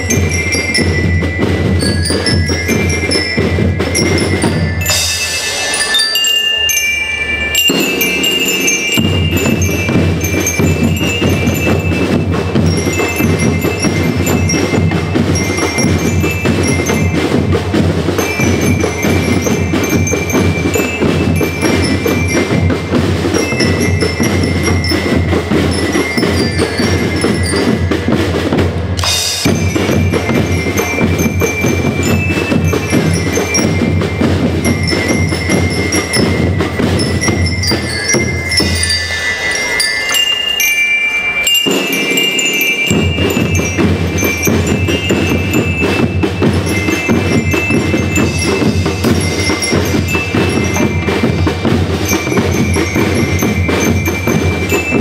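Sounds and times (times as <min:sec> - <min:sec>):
snare and bass drums: 0:00.0 - 0:05.7, 0:07.7 - 0:39.1, 0:41.6 - 0:55.0
bell lyres melody: 0:00.0 - 0:55.0.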